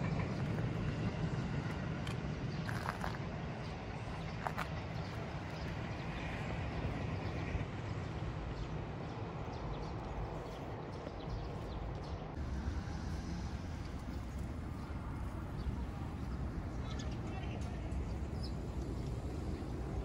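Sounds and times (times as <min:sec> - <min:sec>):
distant road traffic rumble: 0:00.0 - 0:20.0.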